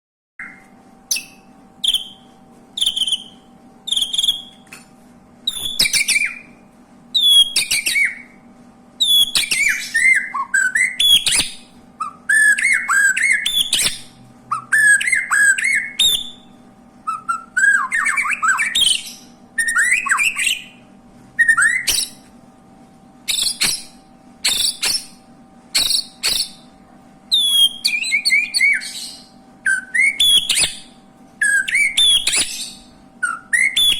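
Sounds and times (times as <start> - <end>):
canary singing: 0.4 - 4.7, 5.4 - 22.3, 23.2 - 33.9.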